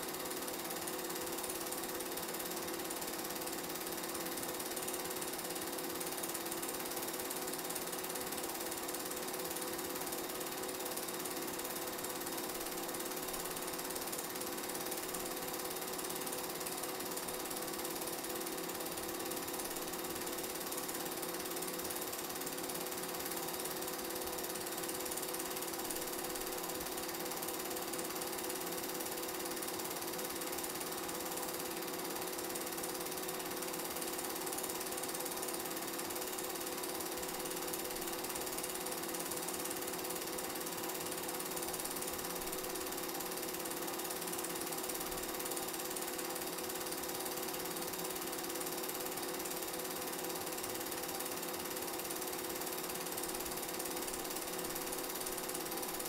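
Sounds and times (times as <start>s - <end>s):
film projector mechanical clatter: 0.0s - 56.0s.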